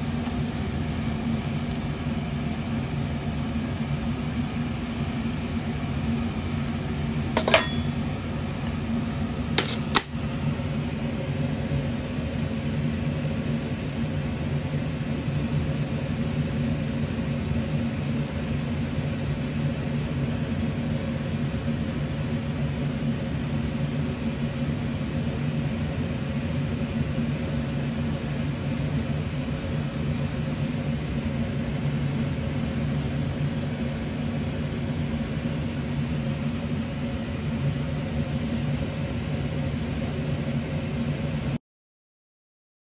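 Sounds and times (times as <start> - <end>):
low mechanical hum: 0.0 - 41.6.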